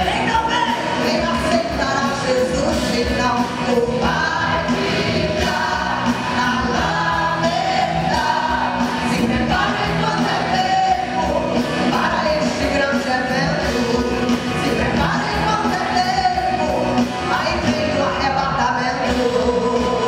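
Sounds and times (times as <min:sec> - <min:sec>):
drum kit: 0:00.0 - 0:20.0
electric guitar: 0:00.0 - 0:20.0
woman singing gospel: 0:00.0 - 0:20.0.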